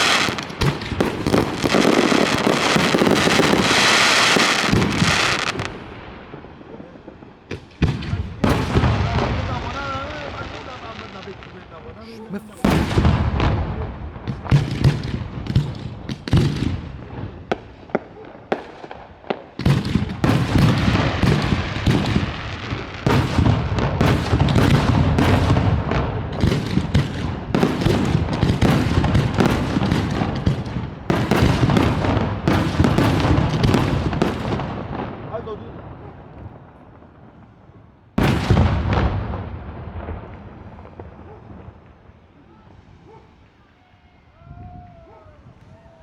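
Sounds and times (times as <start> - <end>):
fireworks bangs and explosions: 0.0 - 43.7.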